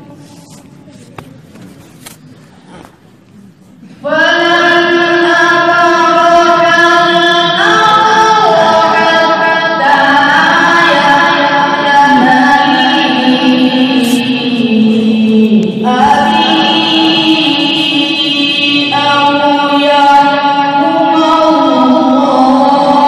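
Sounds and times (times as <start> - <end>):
person chanting melodic recitation: 3.9 - 23.0.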